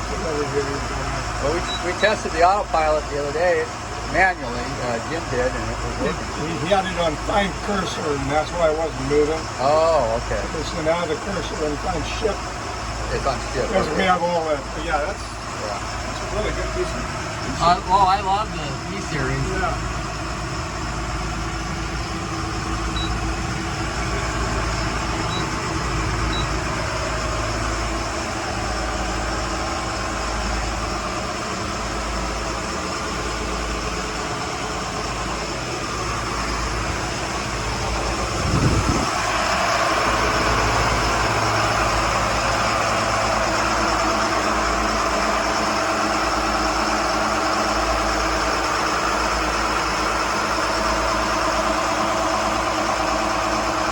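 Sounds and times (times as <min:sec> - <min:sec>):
boat diesel engines droning: 0:00.0 - 0:53.9.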